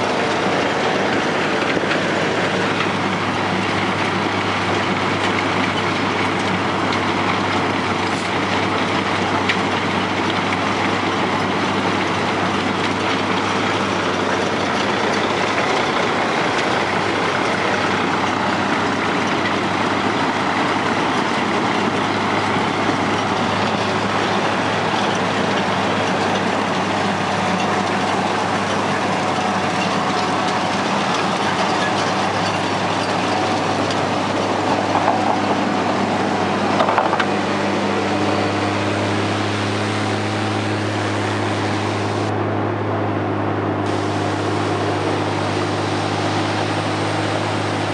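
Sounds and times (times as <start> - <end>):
millings pouring into trailer: 0.0 - 39.0
cutting drum grinding: 0.0 - 42.3
heavy diesel drone: 0.0 - 47.9
truck diesel engine running: 0.0 - 47.9.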